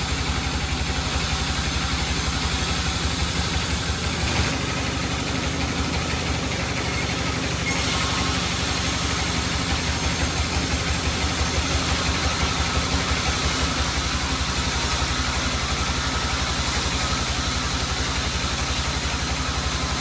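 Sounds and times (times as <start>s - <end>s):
sawmill machinery hiss: 0.0s - 20.0s.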